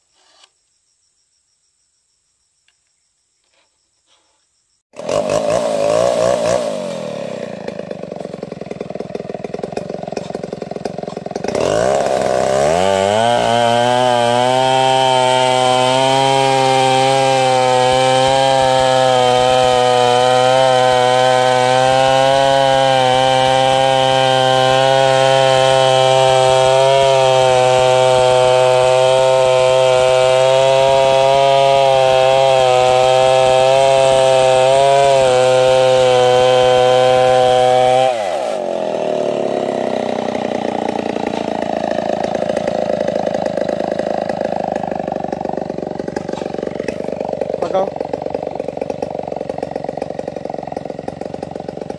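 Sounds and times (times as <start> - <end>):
chainsaw cutting log: 0.1 - 0.5, 4.9 - 51.9
chainsaw revving and idling: 4.9 - 51.9.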